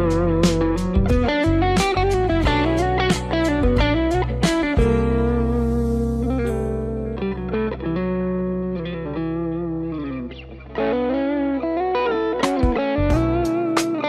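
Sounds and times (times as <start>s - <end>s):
backing track with low bass: 0.0s - 10.7s, 12.4s - 14.0s
electric guitar lead melody: 0.0s - 14.0s.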